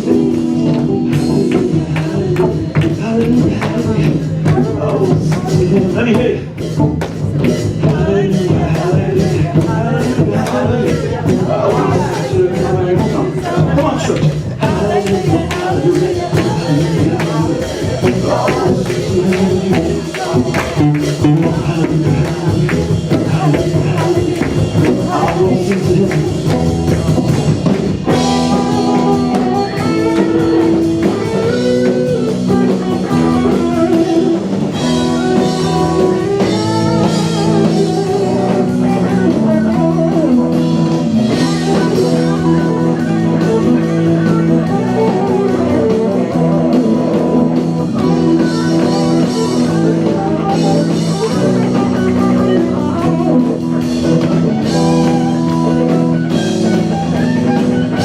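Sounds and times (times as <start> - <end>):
drum kit: 0.0 - 58.0
electric guitar chords: 0.0 - 58.0.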